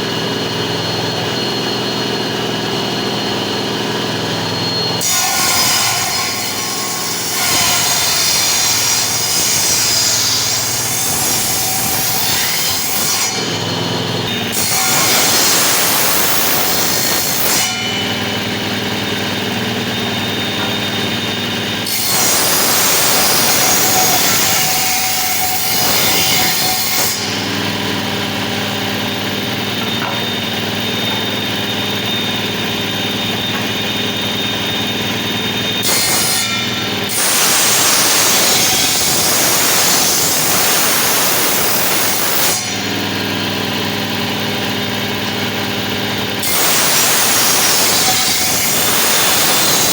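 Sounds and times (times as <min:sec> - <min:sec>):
saw cutting through wood: 0:00.0 - 0:49.9
power tool motor humming: 0:00.5 - 0:49.9.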